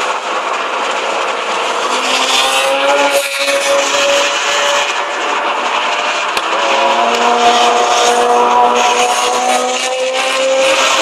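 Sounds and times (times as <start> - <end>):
car engine hum: 0.0 - 11.0
road and wind noise: 0.0 - 11.0.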